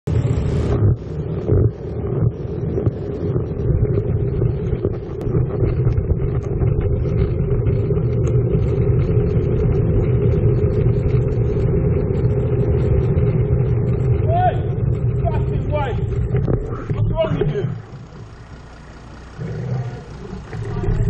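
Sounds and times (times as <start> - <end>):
rumble of car engines and tyres: 0.0 - 21.0.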